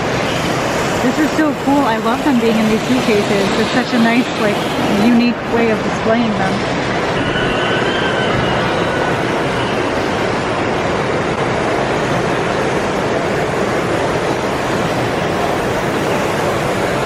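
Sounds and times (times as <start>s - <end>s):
crowd hubbub echoing: 0.0s - 17.0s.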